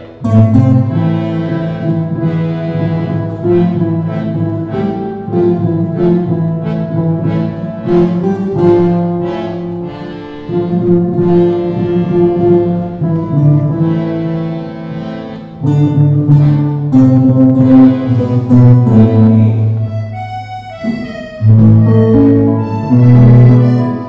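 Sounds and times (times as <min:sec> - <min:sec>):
acoustic guitars playing chords: 0:00.0 - 0:24.0.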